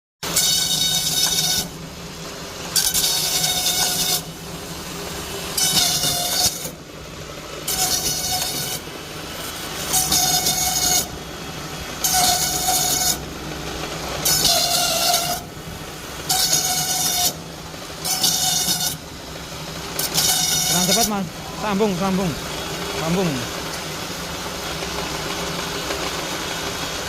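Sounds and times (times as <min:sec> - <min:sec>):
planer shaving bamboo: 0:00.2 - 0:27.0
machine motor running: 0:01.2 - 0:27.0.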